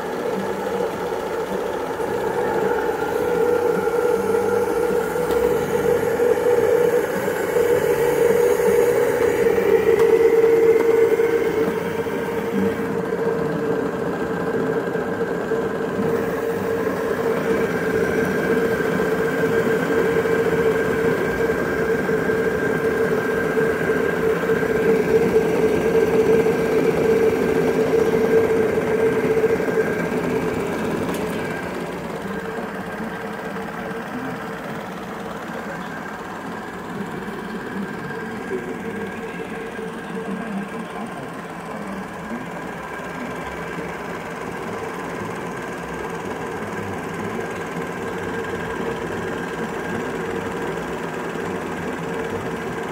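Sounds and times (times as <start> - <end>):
small engine running steadily: 0.0 - 52.9.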